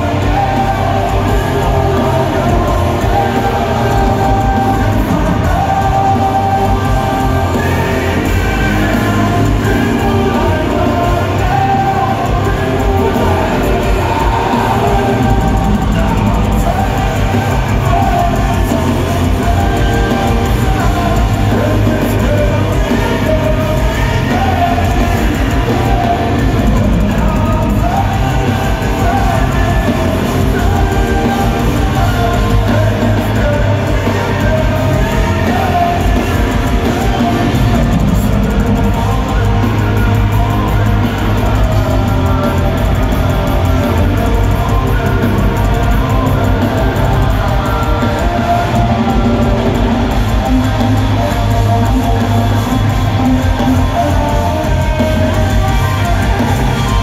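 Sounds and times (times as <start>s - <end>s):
live rock band: 0.0s - 57.0s
person singing: 0.0s - 57.0s.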